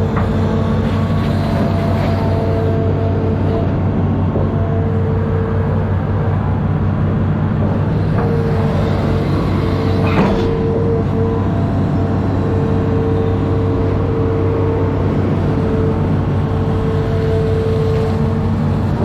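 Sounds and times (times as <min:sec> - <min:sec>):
diesel engine running: 0:00.0 - 0:19.0
steady mechanical whine: 0:00.0 - 0:19.0.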